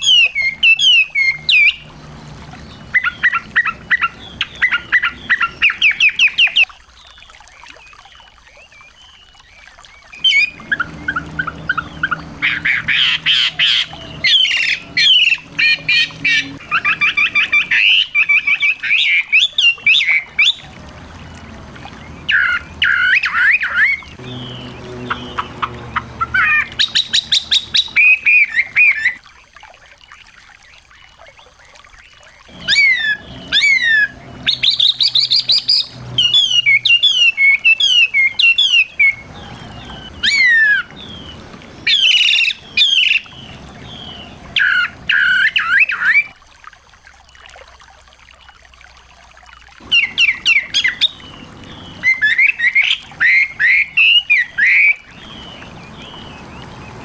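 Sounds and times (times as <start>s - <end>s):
songbirds singing: 0.0s - 46.4s, 49.8s - 57.0s.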